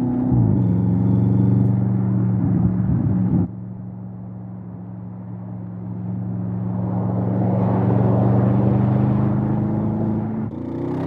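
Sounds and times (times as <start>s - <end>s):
car engine and exhaust rumbling: 0.0s - 11.0s.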